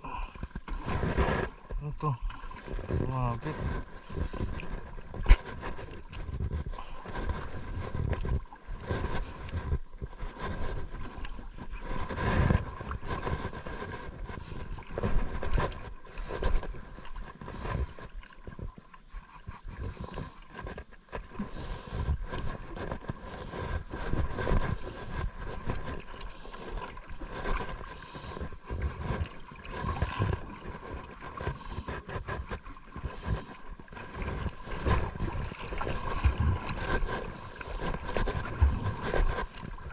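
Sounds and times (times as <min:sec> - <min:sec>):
water lapping against boat hull: 0:00.0 - 0:39.9.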